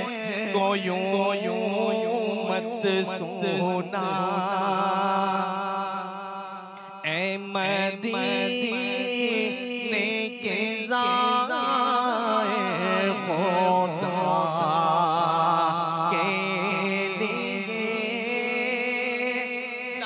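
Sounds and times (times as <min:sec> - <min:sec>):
man singing into microphone: 0:00.0 - 0:20.0.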